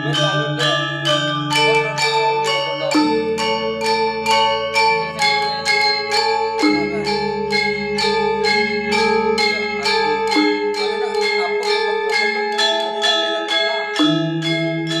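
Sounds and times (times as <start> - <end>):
metallophones ringing strokes: 0.0 - 15.0
sustained low gong tones: 0.0 - 15.0.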